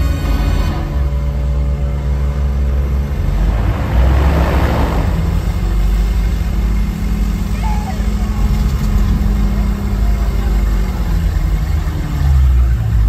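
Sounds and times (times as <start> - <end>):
jet ski and boat engines: 0.0 - 13.0.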